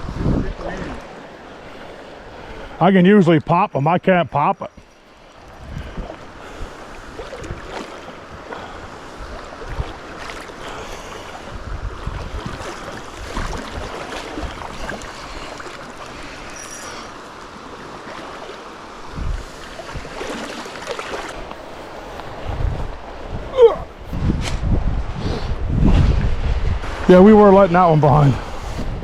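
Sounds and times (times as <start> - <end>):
wind buffeting microphone: 0.0 - 2.8, 5.4 - 16.5, 19.0 - 20.5, 21.2 - 29.0
stream water rushing: 0.0 - 24.3, 25.0 - 29.0.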